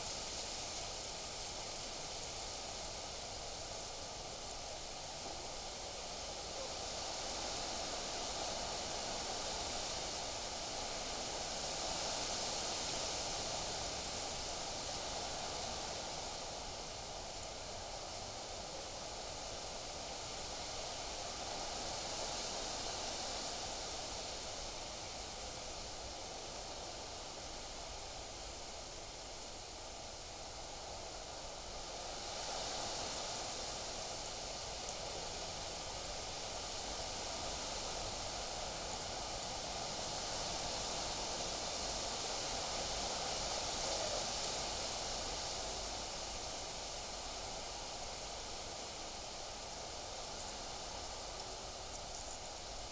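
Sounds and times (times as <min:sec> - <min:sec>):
wind rustling leaves: 0:00.0 - 0:52.9.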